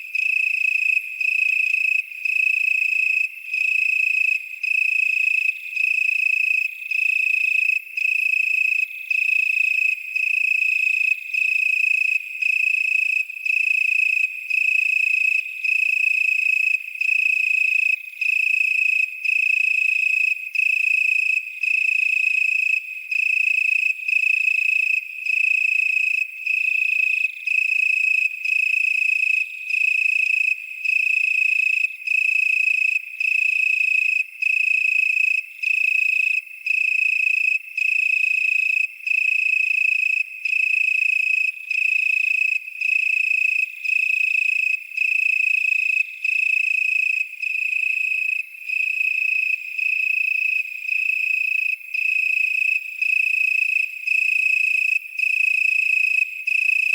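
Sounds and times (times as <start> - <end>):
chorus of insects: 0.0 - 56.9
cricket chirping: 0.0 - 56.9.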